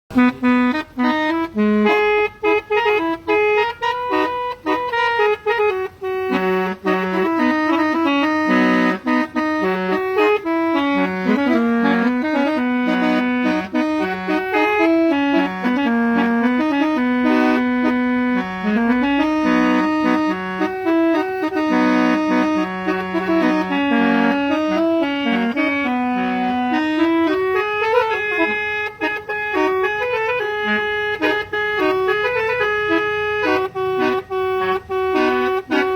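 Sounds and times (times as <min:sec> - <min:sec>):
tuned air horns playing tune: 0:00.1 - 0:35.9.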